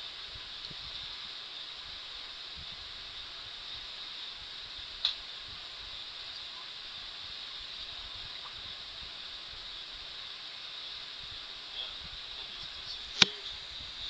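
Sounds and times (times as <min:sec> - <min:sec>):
faint constant whine: 0:00.0 - 0:14.0
steady high-pitched hiss: 0:00.0 - 0:14.0.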